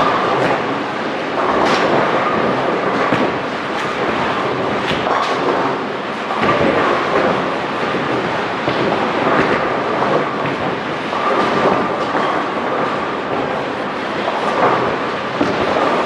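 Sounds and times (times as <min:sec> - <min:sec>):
bowling pins crashing: 0:00.0 - 0:13.6, 0:14.2 - 0:16.0
bowling balls rolling: 0:00.0 - 0:16.0.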